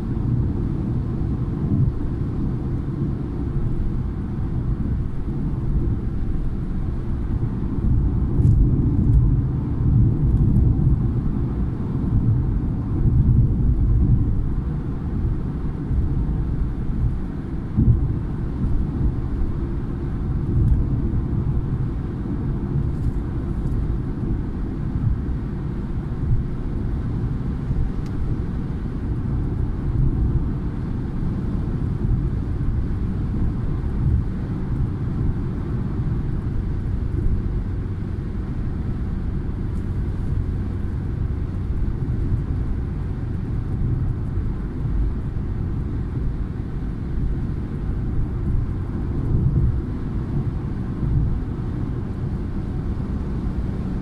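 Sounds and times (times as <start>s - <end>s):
car interior road noise: 0.0s - 54.0s.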